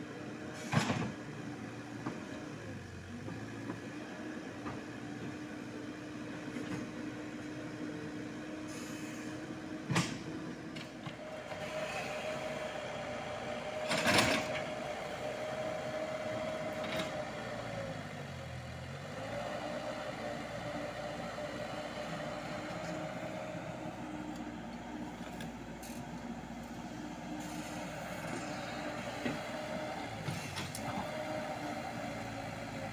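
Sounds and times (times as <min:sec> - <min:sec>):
excavator diesel engine whining: 0:00.0 - 0:32.9.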